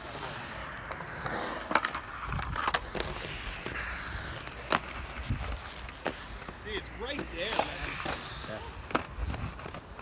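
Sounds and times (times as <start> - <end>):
skate wheels rolling on concrete: 0.0 - 10.0
sharp skate clacks: 0.1 - 10.0.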